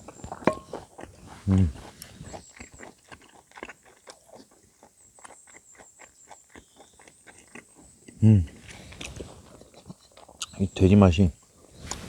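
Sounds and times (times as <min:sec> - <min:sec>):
person chewing crunchy food: 0:00.0 - 0:10.6.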